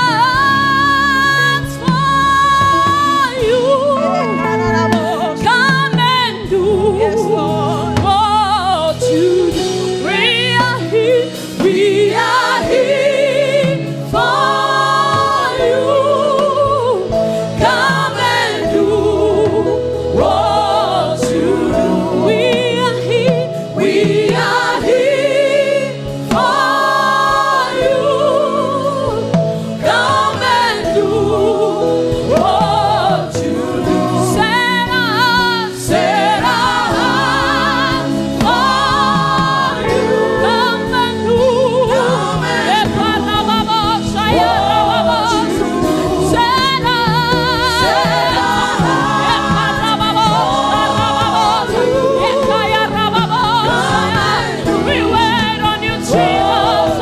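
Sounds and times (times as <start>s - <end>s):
instrumental backing: 0.0s - 57.0s
voices singing gospel music: 0.0s - 57.0s.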